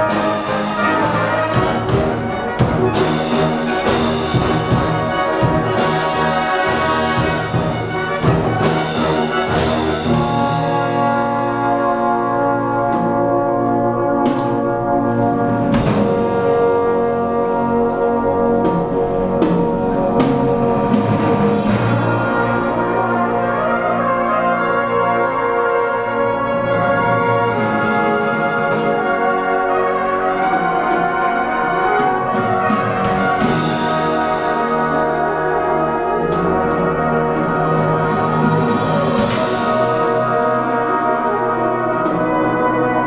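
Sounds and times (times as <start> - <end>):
brass band playing: 0.0 - 43.0.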